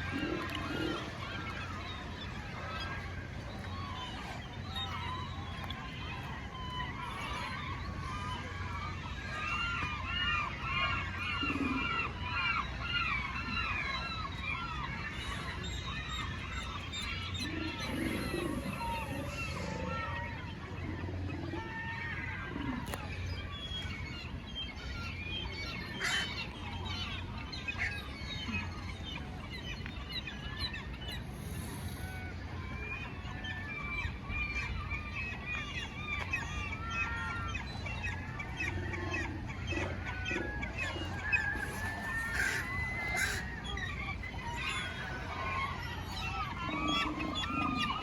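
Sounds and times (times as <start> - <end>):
flock of birds calling: 0.0 - 48.0.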